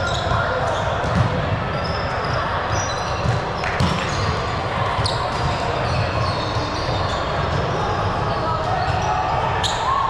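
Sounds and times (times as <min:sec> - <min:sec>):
sneaker squeaks: 0:00.0 - 0:10.0.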